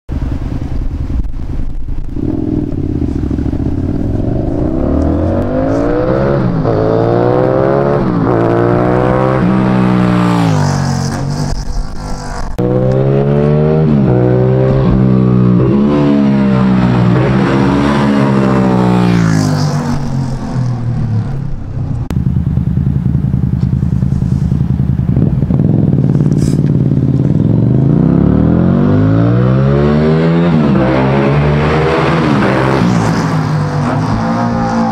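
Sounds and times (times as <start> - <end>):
motorcycle accelerating through gears: 0.2 - 34.9.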